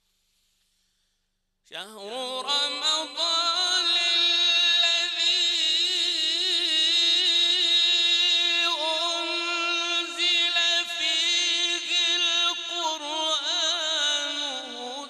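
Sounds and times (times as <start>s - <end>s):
man reciting melodically: 1.7s - 15.0s.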